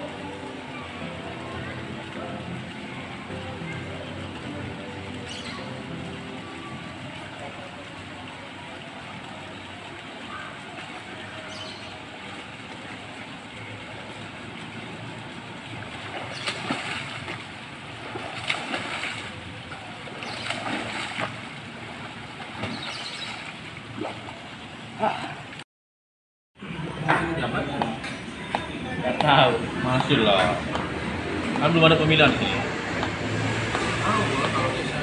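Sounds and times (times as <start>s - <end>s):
swimmer splashing water: 0.0s - 25.6s, 26.6s - 35.0s.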